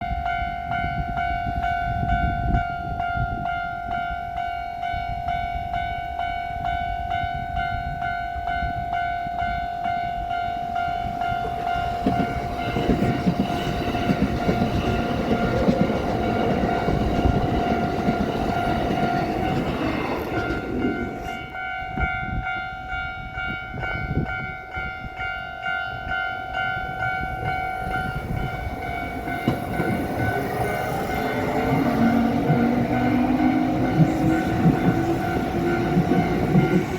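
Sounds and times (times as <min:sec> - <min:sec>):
train passing: 0:00.0 - 0:36.9.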